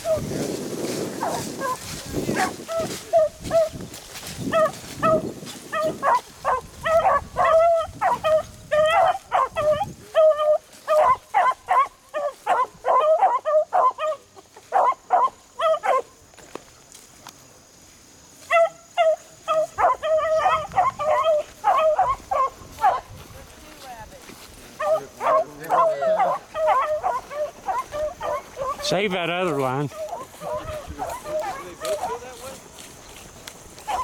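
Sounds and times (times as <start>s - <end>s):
dogs baying: 0.0s - 0.2s, 1.0s - 16.2s, 18.5s - 23.1s, 24.8s - 32.6s, 33.8s - 34.0s
brush rustling: 0.0s - 34.0s.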